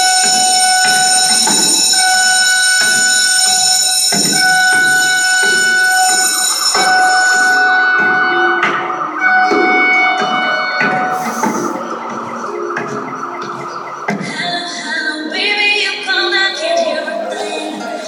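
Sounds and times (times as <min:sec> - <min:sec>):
loud steady electronic tone: 0:00.0 - 0:18.0.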